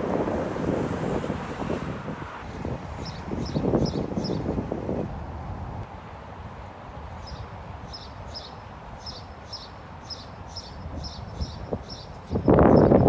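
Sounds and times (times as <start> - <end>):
city noise hum: 0.0 - 13.0.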